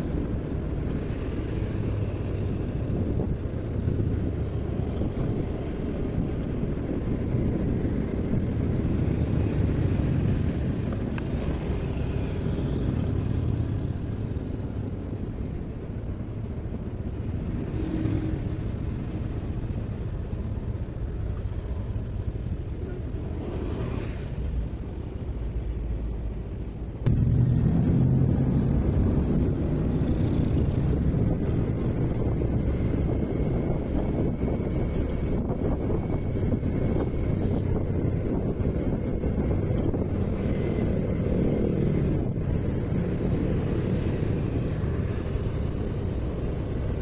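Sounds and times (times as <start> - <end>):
wind on microphone: 0.0 - 25.6, 26.8 - 47.0.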